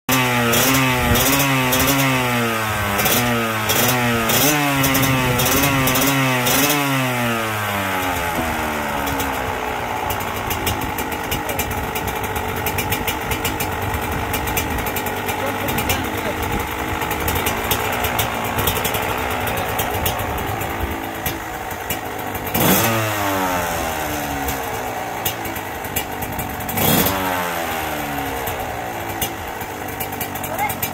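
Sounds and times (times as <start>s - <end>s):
dirt bike engine revving: 0.1s - 30.9s.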